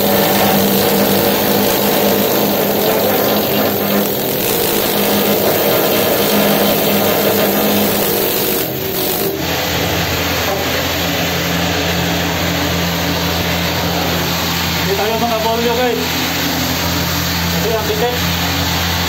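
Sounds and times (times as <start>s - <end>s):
ship machinery drone: 0.0s - 19.0s.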